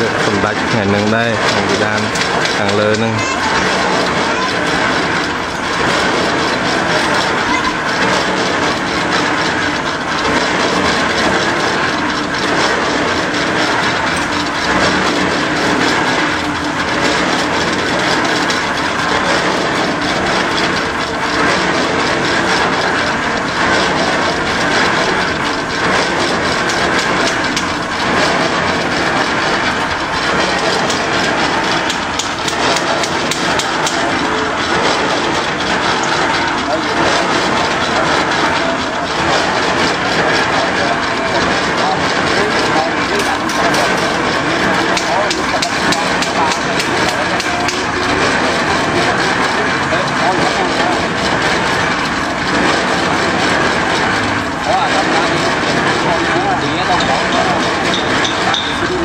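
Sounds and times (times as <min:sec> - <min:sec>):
construction machinery grinding: 0:00.0 - 0:59.0.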